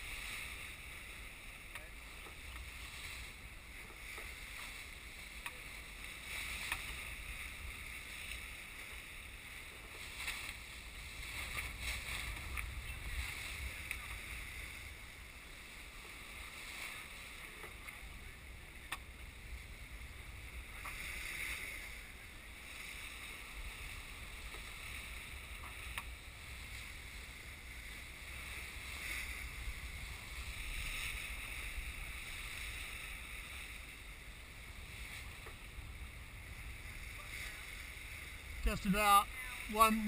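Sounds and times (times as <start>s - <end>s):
water hissing along hull: 0.0s - 39.9s
wind rumble on microphone: 0.0s - 40.0s.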